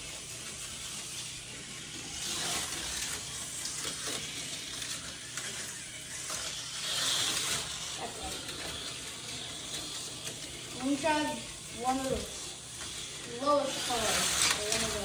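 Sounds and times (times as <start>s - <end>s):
slot cars whirring on track: 0.0s - 15.0s.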